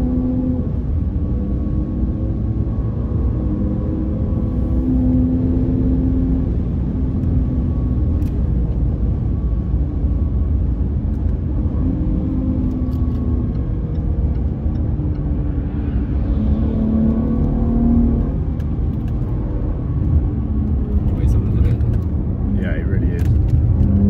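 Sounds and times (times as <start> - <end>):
car engine at speed: 0.0 - 24.0
tyre and road noise: 0.0 - 24.0.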